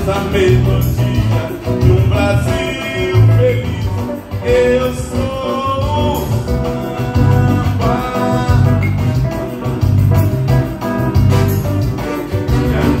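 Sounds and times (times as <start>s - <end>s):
electronic keyboards: 0.0s - 13.0s
guitar: 0.0s - 13.0s
heavy pulsing bass beat: 0.0s - 13.0s.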